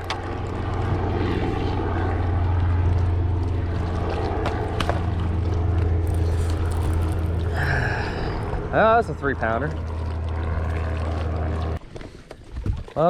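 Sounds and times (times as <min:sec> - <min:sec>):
electric trolling motor hum: 0:00.0 - 0:11.8.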